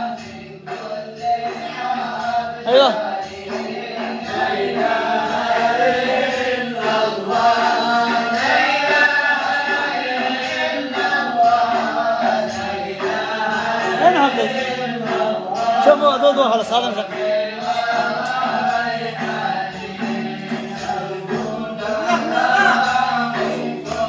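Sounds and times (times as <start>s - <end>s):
voices chanting devotional song: 0.0s - 24.0s.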